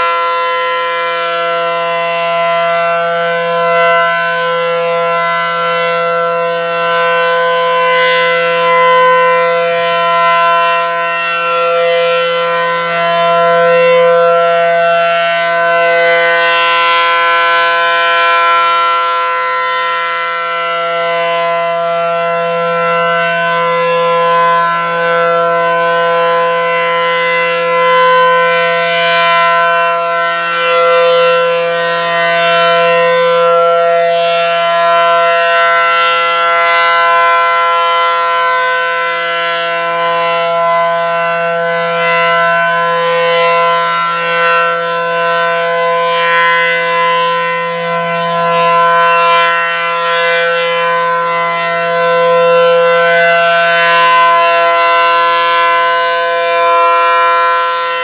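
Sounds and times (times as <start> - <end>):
rotating tornado siren: 0.0 - 58.0.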